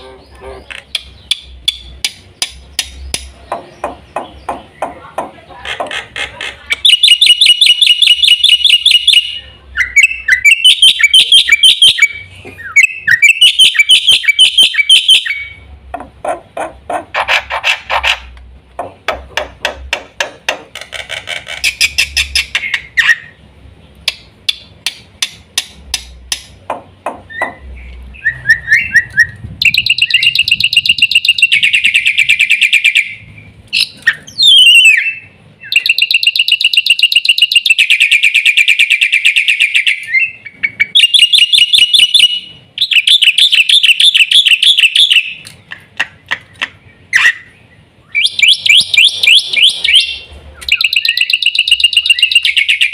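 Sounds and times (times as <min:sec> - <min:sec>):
starling singing: 0:00.0 - 0:18.0, 0:26.3 - 0:45.5, 0:46.1 - 0:52.9.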